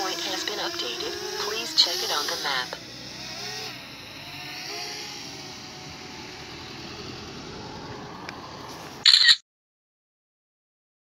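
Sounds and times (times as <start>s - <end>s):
outdoor background noise: 0.0s - 9.4s.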